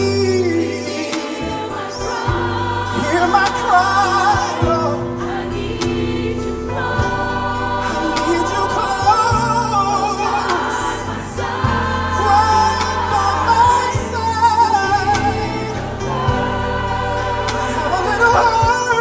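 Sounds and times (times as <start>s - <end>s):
band playing: 0.0s - 19.0s
gospel singer and choir: 0.0s - 19.0s.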